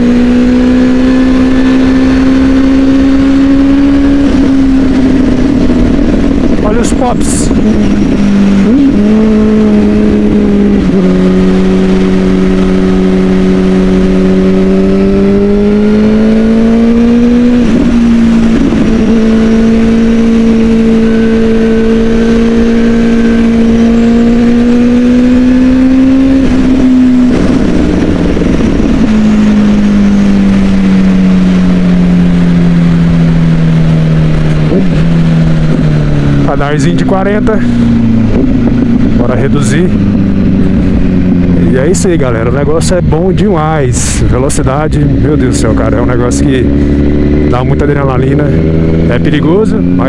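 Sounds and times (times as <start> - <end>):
motorcycle engine running hard: 0.0 - 50.0.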